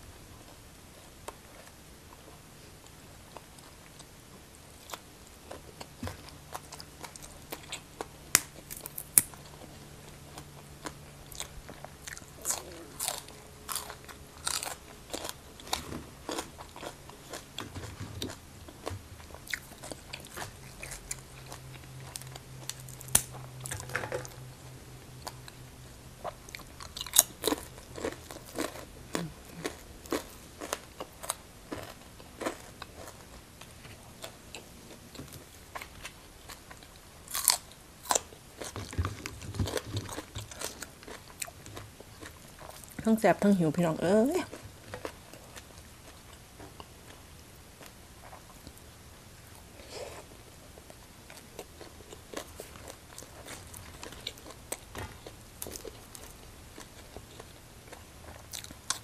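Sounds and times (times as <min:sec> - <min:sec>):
chewing and crunching: 0:00.4 - 0:24.5, 0:25.1 - 0:59.0.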